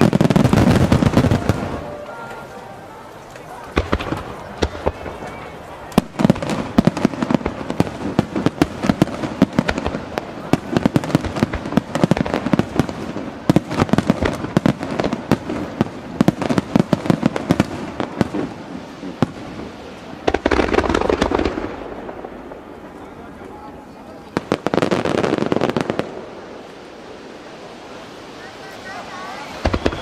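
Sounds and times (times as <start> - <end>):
deep firework burst with rumble: 0.0 - 1.9, 3.7 - 30.0
fireworks bursting: 0.0 - 30.0.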